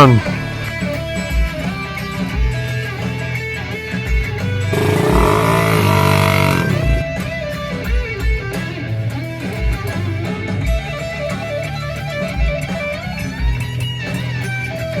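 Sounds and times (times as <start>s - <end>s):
electric guitar music with beat: 0.0s - 15.0s.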